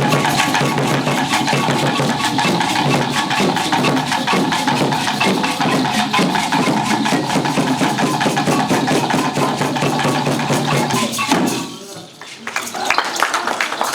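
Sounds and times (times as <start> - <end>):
drum music: 0.0 - 12.2.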